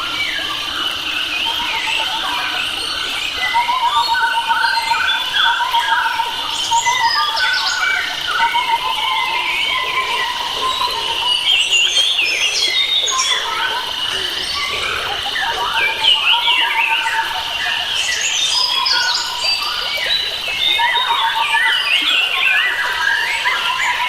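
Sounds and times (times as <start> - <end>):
forest birds chirping: 0.0 - 24.0.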